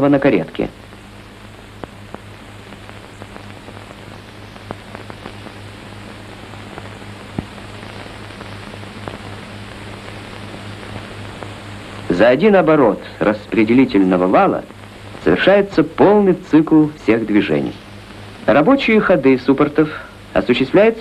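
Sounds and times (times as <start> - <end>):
low hum: 0.0 - 20.7
crackles and pops: 0.0 - 21.0
film soundtrack hiss: 0.0 - 21.0.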